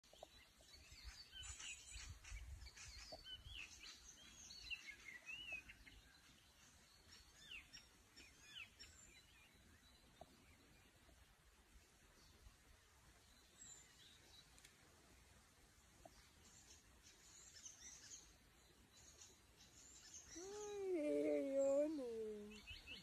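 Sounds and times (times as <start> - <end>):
faint birdsong chirps: 0.0 - 23.0.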